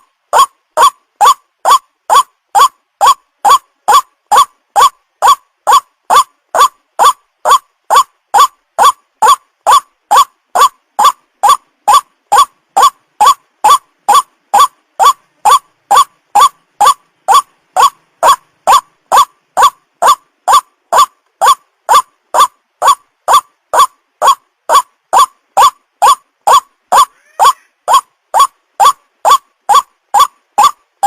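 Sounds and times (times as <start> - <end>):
waterhen call: 0.0 - 30.8.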